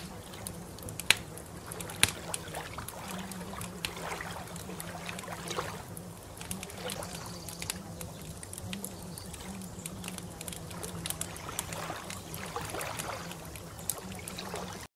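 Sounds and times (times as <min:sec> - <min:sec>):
low steady hum: 0:00.0 - 0:14.9
small sharp splashes and clicks: 0:00.0 - 0:14.9
water trickling and burbling: 0:00.0 - 0:14.9.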